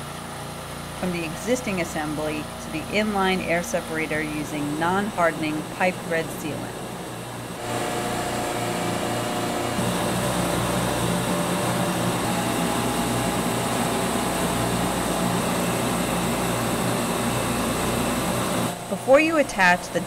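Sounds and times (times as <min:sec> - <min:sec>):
refrigeration machinery humming: 0:00.0 - 0:20.0.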